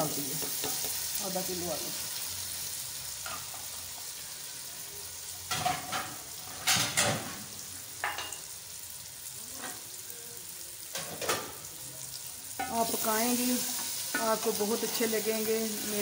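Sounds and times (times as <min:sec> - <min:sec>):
potatoes sizzling in oil: 0:00.0 - 0:16.0.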